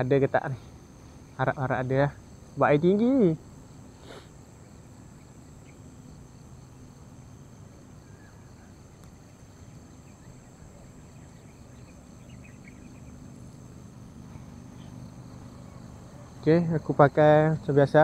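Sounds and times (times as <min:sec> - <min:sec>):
faint bird chirps: 0:00.0 - 0:17.0
high-pitched insect drone: 0:00.0 - 0:18.0
low background rumble: 0:00.0 - 0:18.0.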